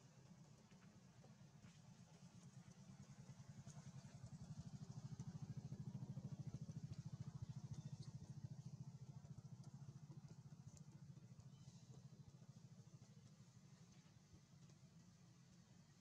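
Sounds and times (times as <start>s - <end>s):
faint pulsing engine hum: 0.0s - 16.0s.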